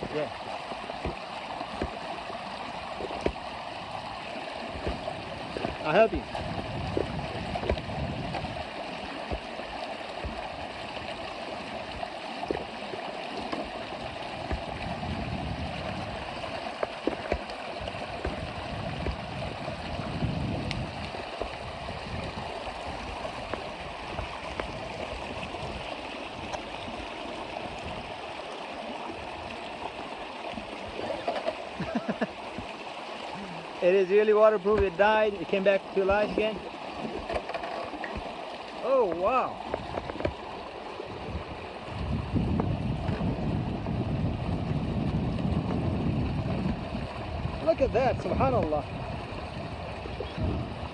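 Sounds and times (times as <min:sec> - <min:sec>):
creek water running over rocks: 0:00.0 - 0:50.9.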